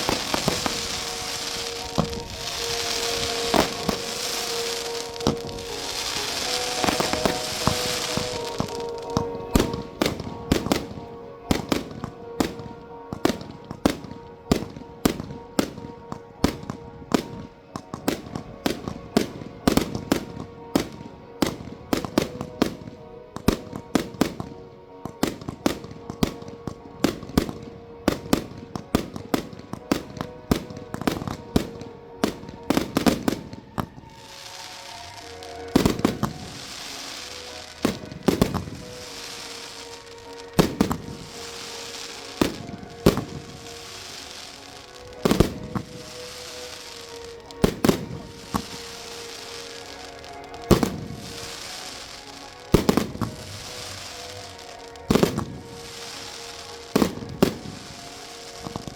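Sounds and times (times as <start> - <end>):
fireworks banging: 0.0 - 58.9
fireworks fizzing crackle: 0.0 - 58.9.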